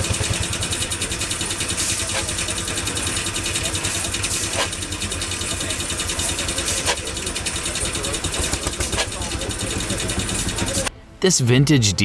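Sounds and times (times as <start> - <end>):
old stationary engine running: 0.0 - 10.9.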